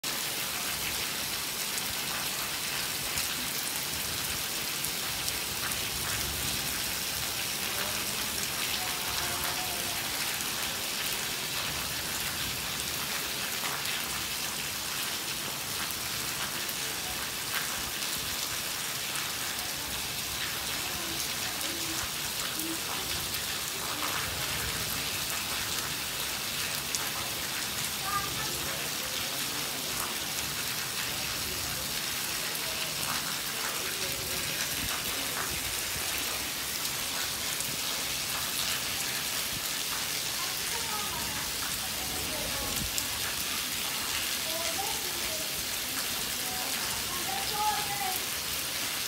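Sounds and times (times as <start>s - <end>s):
heavy rain on concrete: 0.0s - 49.0s.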